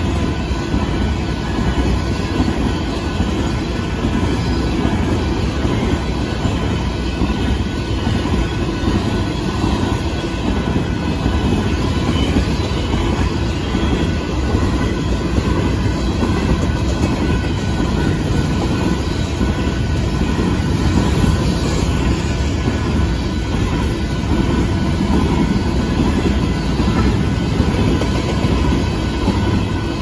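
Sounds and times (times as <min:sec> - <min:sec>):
steel train wheels on rails: 0:00.0 - 0:30.0.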